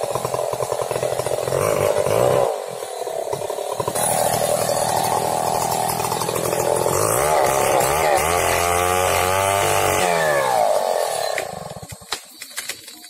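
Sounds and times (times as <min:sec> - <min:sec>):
chainsaw cutting tree trunk: 0:00.0 - 0:12.8.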